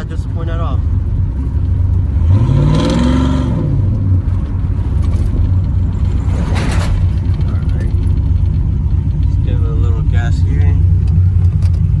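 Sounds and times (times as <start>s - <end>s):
engine exhaust drone revving: 0.0s - 12.0s.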